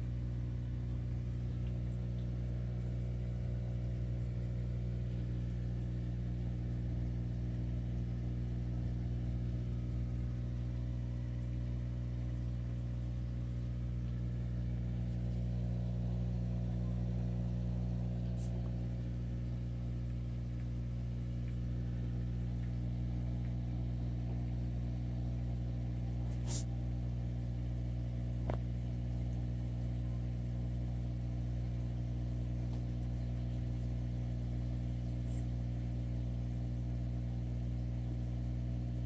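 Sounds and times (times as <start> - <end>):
aquarium equipment humming: 0.0 - 39.0.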